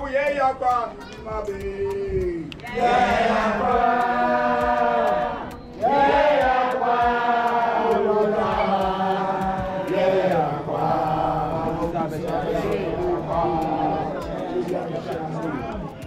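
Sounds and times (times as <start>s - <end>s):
group of voices chanting: 2.6s - 16.0s.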